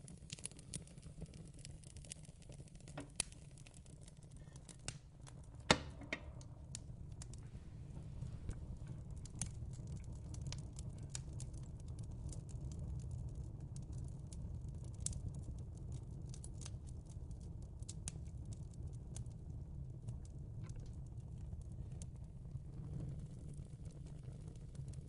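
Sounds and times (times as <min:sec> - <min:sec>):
fire crackling and popping: 0:00.0 - 0:25.0
low steady rumble: 0:02.4 - 0:25.0.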